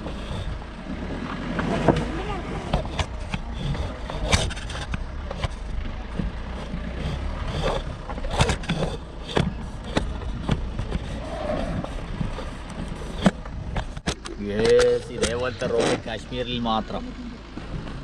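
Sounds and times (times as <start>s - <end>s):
vehicle engine and road rumble: 0.0s - 18.0s
vehicle knocks and rattles: 0.0s - 18.0s.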